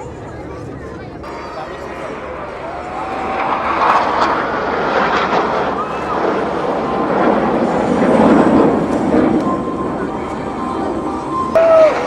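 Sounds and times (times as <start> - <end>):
aircraft flying over: 0.0 - 12.0.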